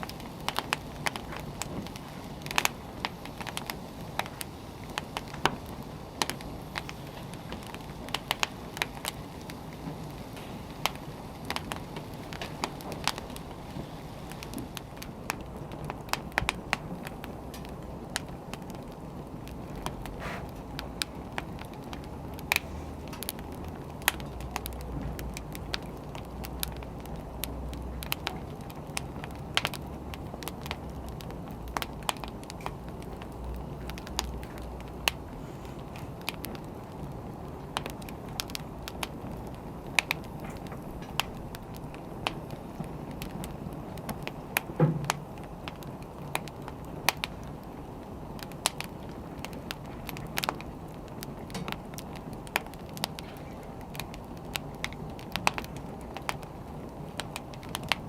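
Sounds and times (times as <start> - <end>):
fire low rumble: 0.0 - 58.0
wood fire popping: 0.0 - 58.0.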